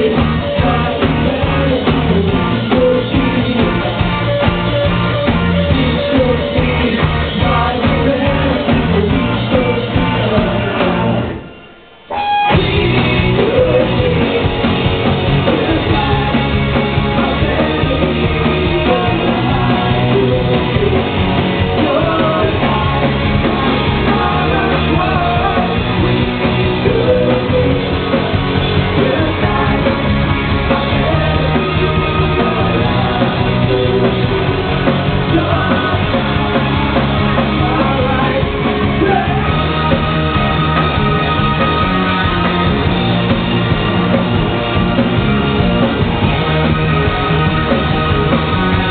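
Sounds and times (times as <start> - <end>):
lead vocal: 0.0 - 48.9
rock band playing live: 0.0 - 48.9.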